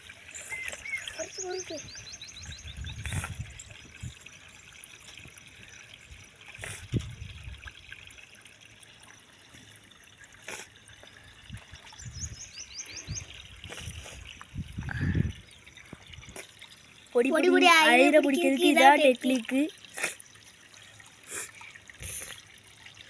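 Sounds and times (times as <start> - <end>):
stream water trickling: 0.0 - 23.0.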